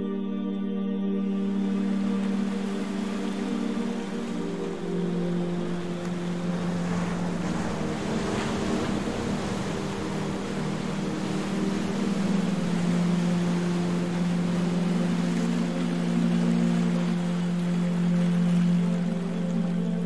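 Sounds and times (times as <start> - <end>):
slow ambient music: 0.0 - 20.0
steady noisy wash: 1.2 - 20.0.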